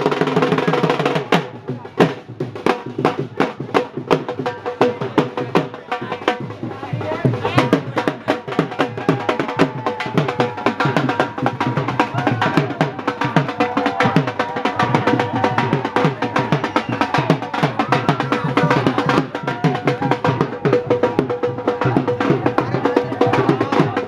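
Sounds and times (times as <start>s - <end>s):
rapid steady drumming: 0.0s - 24.0s.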